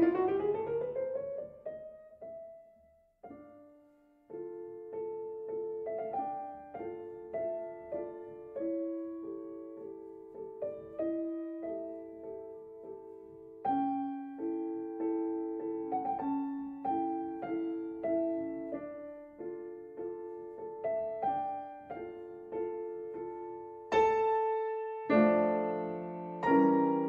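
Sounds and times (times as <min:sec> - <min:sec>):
slow gentle piano music: 0:00.0 - 0:27.0.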